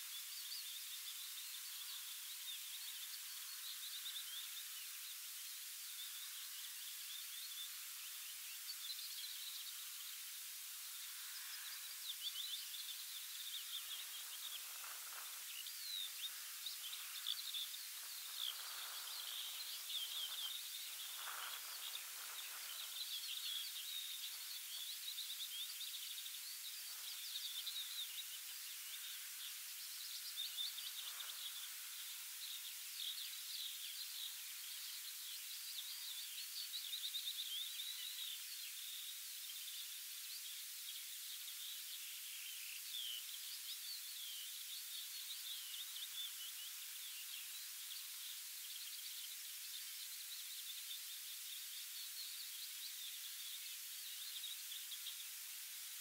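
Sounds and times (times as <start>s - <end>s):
open-air hiss: 0.0s - 56.0s
songbirds chirping and trilling: 0.0s - 56.0s.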